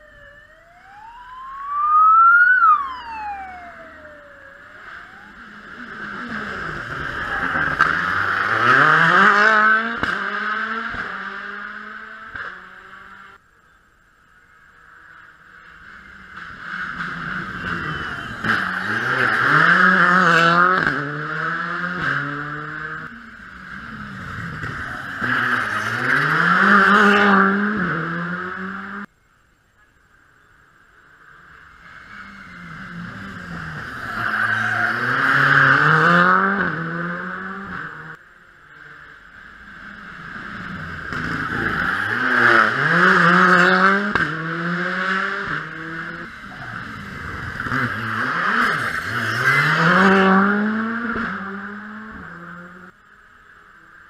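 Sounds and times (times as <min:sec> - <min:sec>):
rally car engine accelerating: 0:03.0 - 0:13.4, 0:15.8 - 0:29.1, 0:31.7 - 0:53.0.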